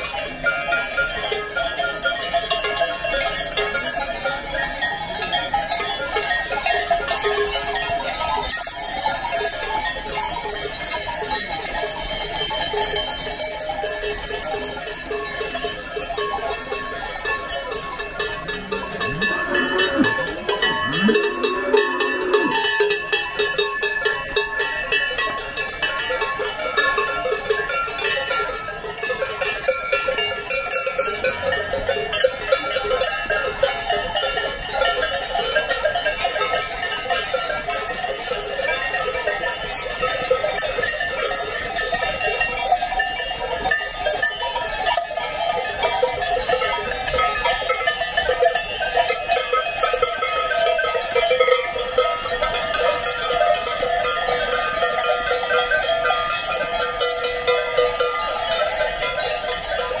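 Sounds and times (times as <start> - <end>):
cowbells clanging: 0.0 - 60.0.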